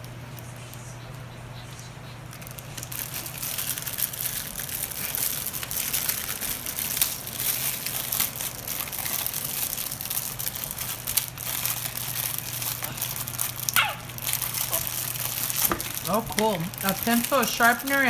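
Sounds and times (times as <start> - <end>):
plastic packet crinkling: 2.3 - 18.0.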